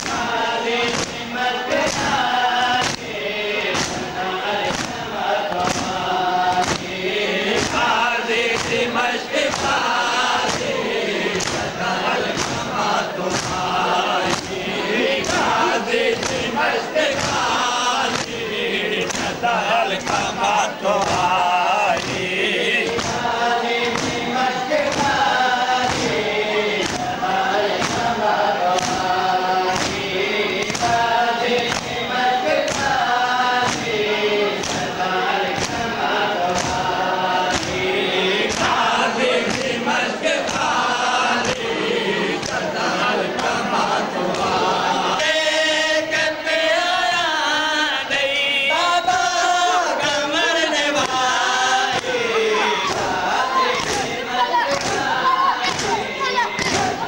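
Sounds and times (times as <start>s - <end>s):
chest beating slaps: 0.0s - 44.6s, 50.9s - 57.0s
crowd chanting in chorus: 0.0s - 57.0s.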